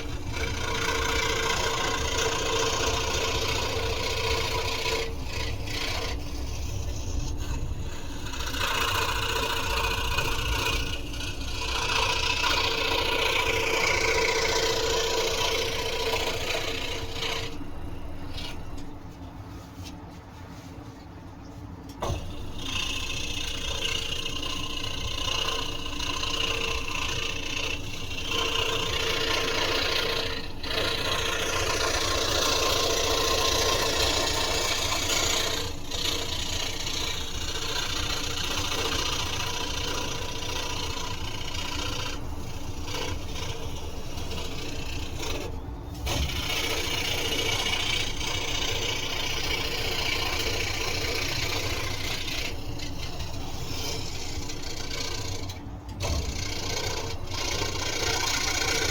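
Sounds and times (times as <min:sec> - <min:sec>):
scroll saw cutting wood: 0:00.0 - 0:19.0, 0:22.0 - 0:58.9.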